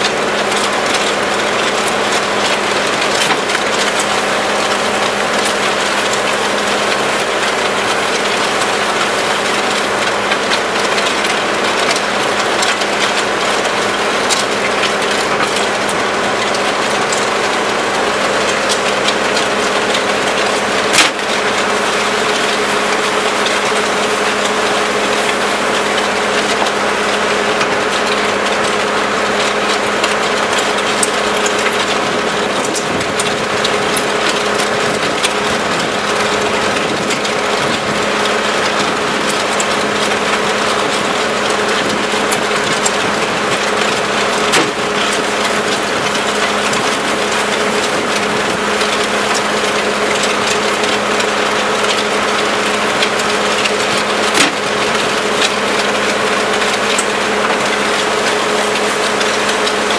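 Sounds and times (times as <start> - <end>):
auger churning concrete: 0.0 - 59.9
skid steer engine running: 0.0 - 59.9.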